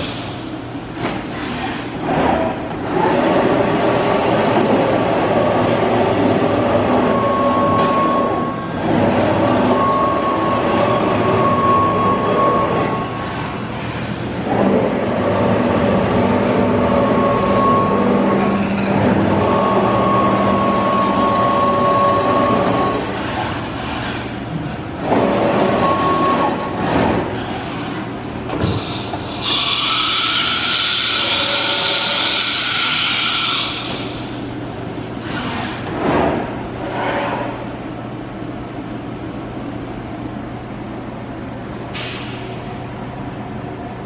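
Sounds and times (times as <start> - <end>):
machine whine: 1.4 - 38.5.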